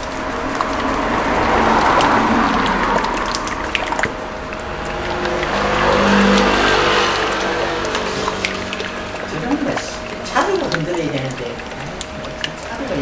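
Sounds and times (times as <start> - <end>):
oil pouring from bottle: 0.0 - 13.0.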